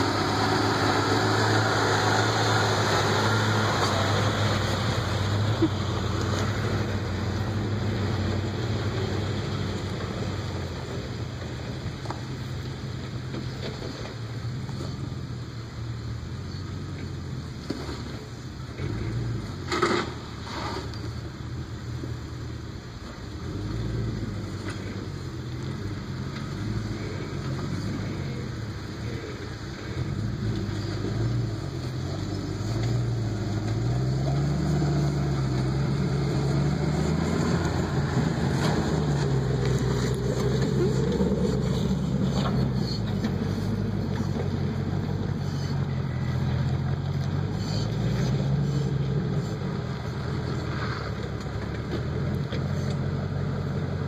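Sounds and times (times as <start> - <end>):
truck engine at low speed: 0.0 - 54.0.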